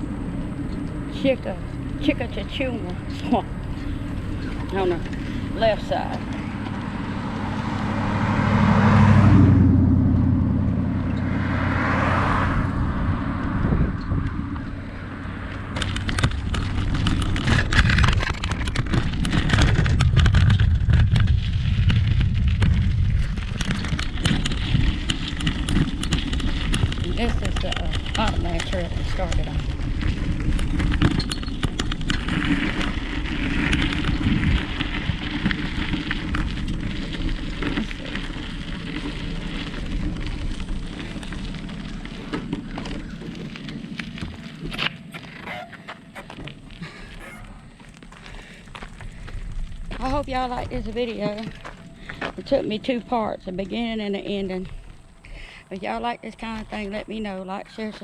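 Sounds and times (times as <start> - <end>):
tyre noise: 0.0 - 58.0
vehicles passing: 0.0 - 58.0
wind rumble on microphone: 0.0 - 58.0.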